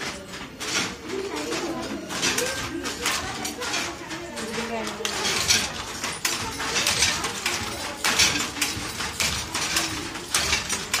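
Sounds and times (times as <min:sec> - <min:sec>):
wooden handloom knocking and clacking: 0:00.0 - 0:11.0.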